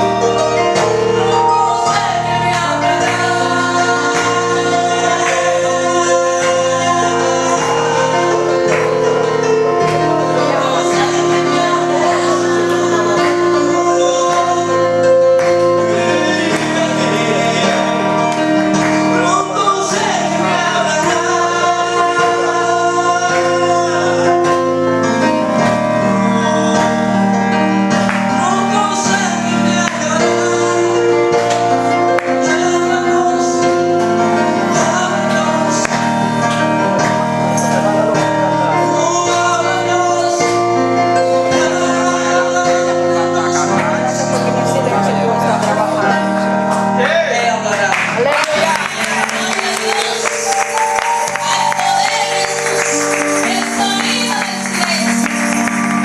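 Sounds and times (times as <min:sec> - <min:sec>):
worship song singing: 0:00.0 - 0:56.0.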